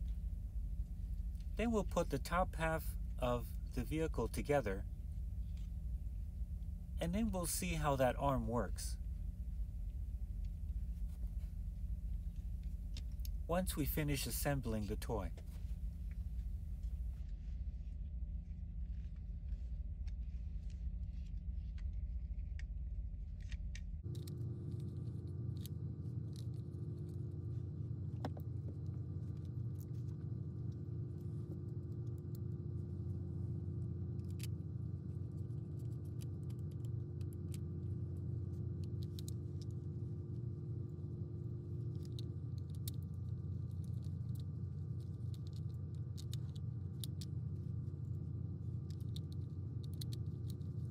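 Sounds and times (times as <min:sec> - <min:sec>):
low background hum: 0:00.0 - 0:50.9.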